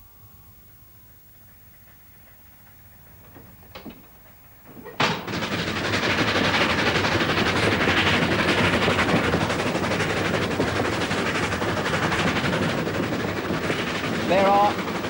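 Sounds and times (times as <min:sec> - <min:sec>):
train running at speed: 0:00.0 - 0:15.0.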